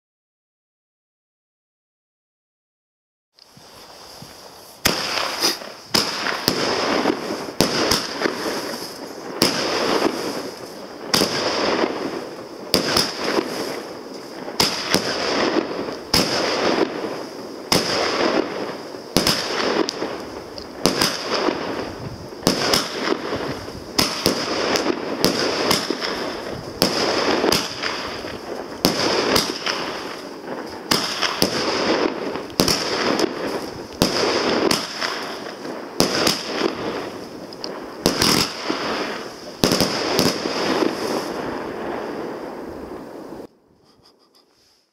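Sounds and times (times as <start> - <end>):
firework shots banging and hissing: 3.4 - 44.9.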